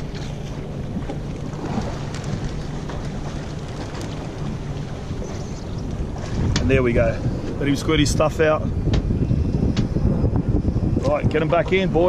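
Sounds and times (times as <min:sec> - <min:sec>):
water noise around boat: 0:00.0 - 0:12.0
wind: 0:00.0 - 0:12.0.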